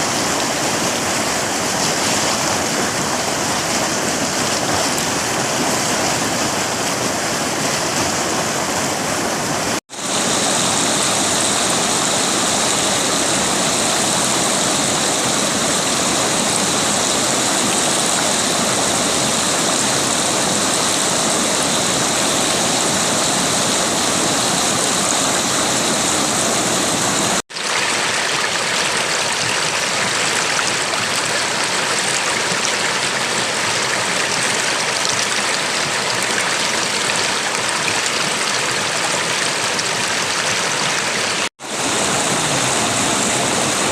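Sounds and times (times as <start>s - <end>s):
river water flowing over stones: 0.0s - 43.9s.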